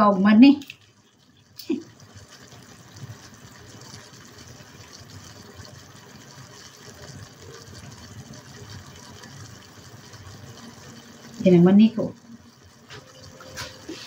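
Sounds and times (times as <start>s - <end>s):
sauce simmering in frying pan: 0.0s - 14.0s.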